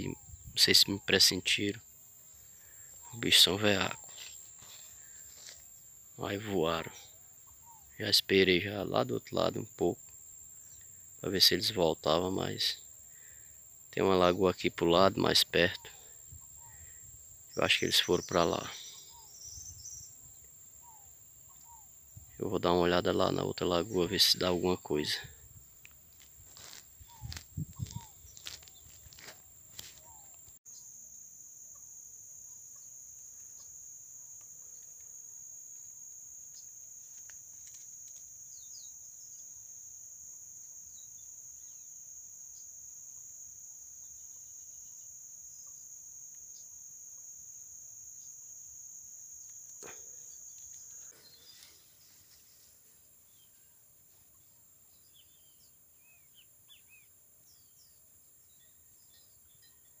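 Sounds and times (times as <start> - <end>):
high-pitched insect drone: 0.0 - 60.0.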